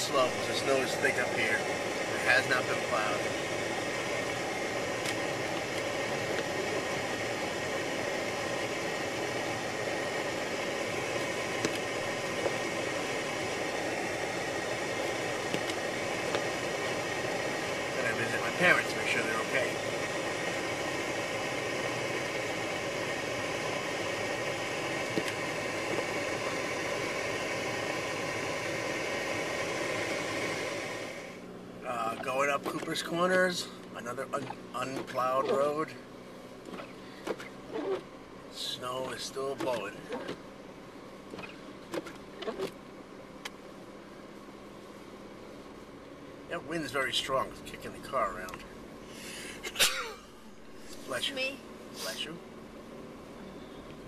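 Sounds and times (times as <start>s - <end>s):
car cabin driving noise on snow: 0.0s - 54.0s.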